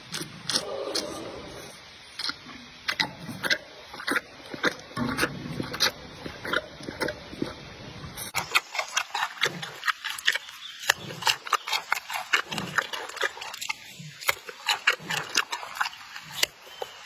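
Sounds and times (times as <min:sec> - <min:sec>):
panda chewing bamboo: 0:00.0 - 0:17.0.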